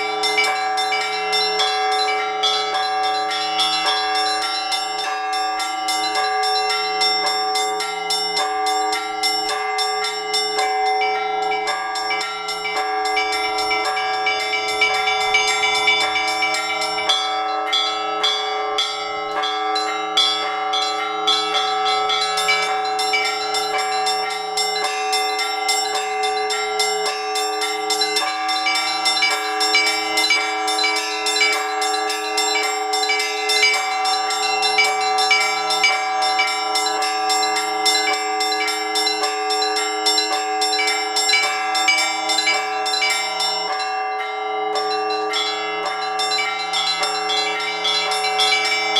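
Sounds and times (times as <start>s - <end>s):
large bells ringing: 0.0s - 48.9s
small bells struck quickly: 0.0s - 48.9s.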